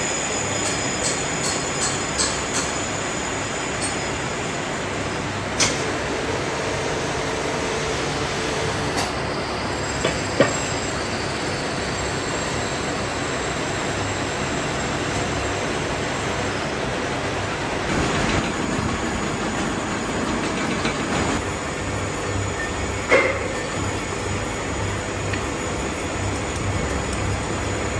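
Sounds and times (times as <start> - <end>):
heavy workshop machinery running: 0.0 - 27.9.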